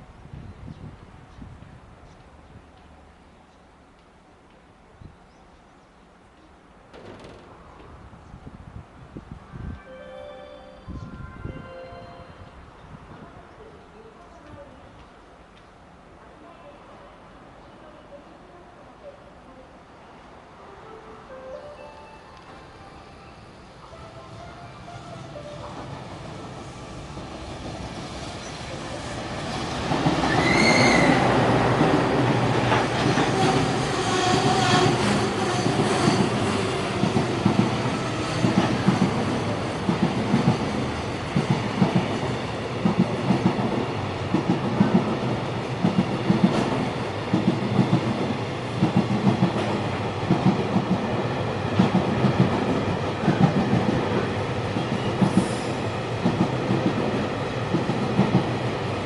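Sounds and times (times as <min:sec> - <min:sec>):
freight train passing: 0:06.6 - 0:59.0.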